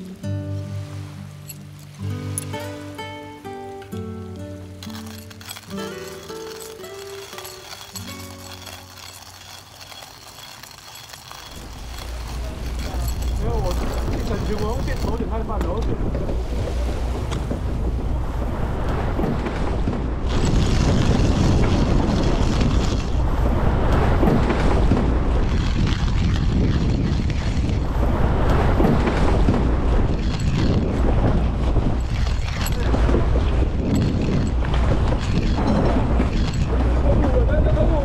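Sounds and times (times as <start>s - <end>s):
water splashing around boat: 0.0s - 38.0s
wind buffeting microphone: 7.3s - 38.0s.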